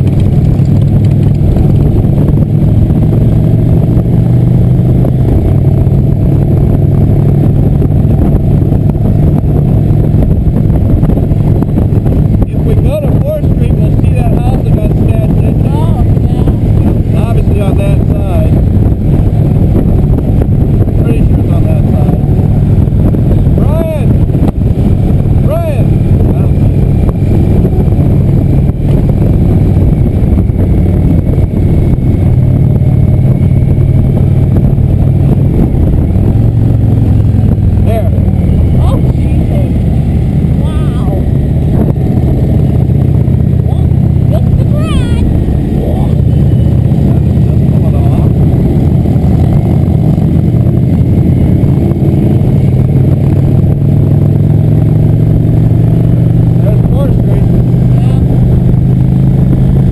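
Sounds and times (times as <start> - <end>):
motorcycle engine drone: 0.0 - 59.9.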